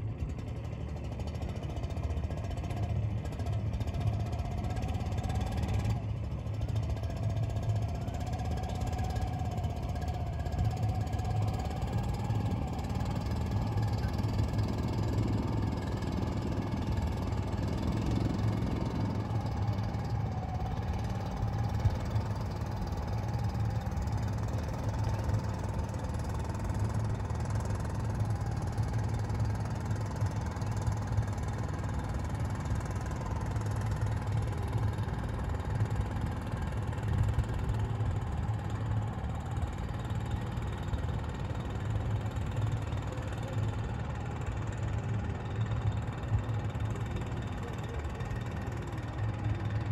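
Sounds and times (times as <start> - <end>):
boat engine droning: 0.0 - 49.9
faint wavering whine: 4.0 - 44.2.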